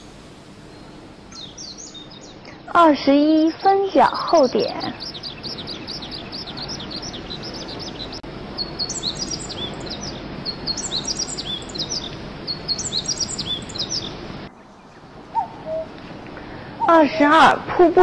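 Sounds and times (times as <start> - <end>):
steady hiss: 0.0 - 15.2
birds chirping and singing: 0.0 - 17.4.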